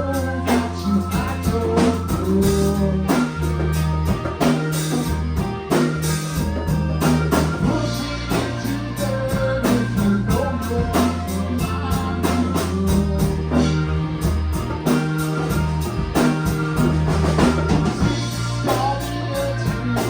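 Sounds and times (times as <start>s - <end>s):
drum kit steady beat: 0.0s - 20.0s
guitar lines: 0.0s - 20.0s
sustained bass notes: 0.0s - 20.0s.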